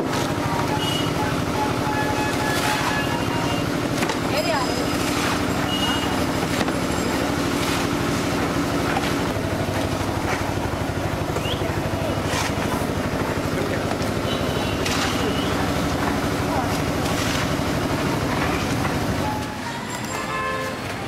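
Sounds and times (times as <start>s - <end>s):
low mechanical drone: 0.0s - 20.1s.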